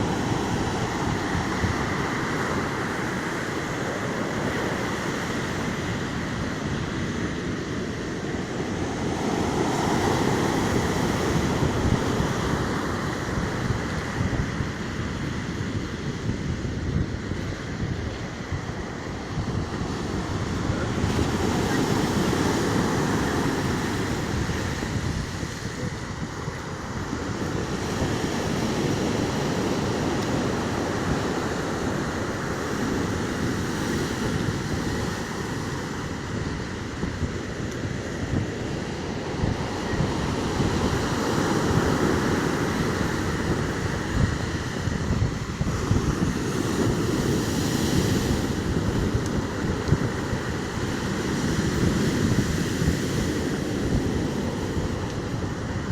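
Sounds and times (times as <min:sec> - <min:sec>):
waves breaking: 0:00.0 - 0:55.9
wind buffeting microphone: 0:00.0 - 0:55.9.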